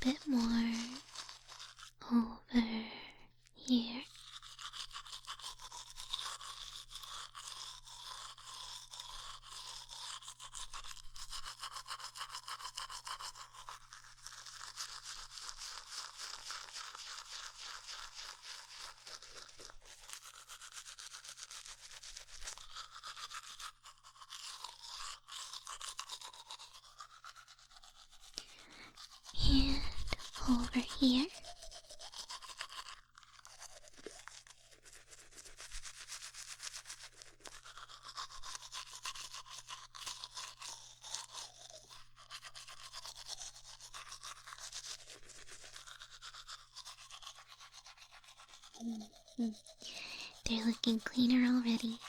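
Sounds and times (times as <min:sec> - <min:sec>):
bristle brush scrubbing: 0:00.0 - 0:52.0.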